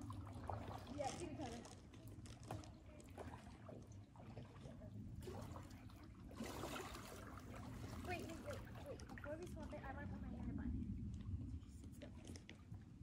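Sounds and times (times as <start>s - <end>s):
river water trickling: 0.0s - 11.2s.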